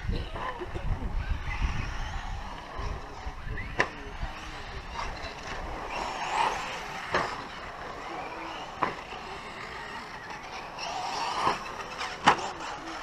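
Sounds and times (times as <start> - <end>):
toy truck motors whining: 0.0 - 13.0.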